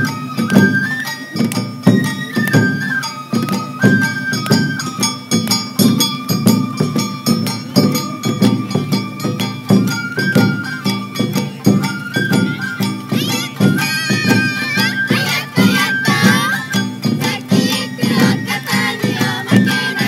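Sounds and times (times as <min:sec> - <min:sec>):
flute playing high notes: 0:00.0 - 0:05.3, 0:08.0 - 0:20.0
drum strikes: 0:00.0 - 0:20.0.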